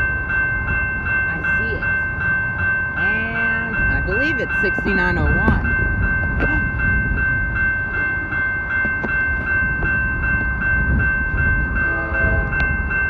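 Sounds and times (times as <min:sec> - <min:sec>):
crossing warning bell ringing: 0:00.0 - 0:13.0
low rumble of passing train: 0:00.0 - 0:13.0.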